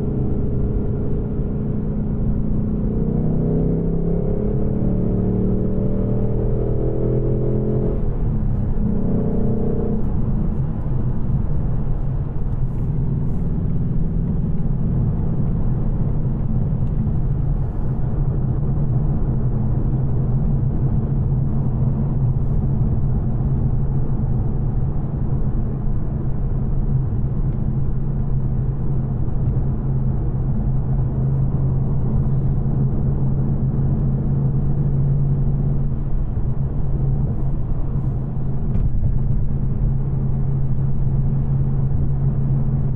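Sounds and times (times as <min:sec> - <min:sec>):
car engine droning: 0:00.0 - 0:42.9.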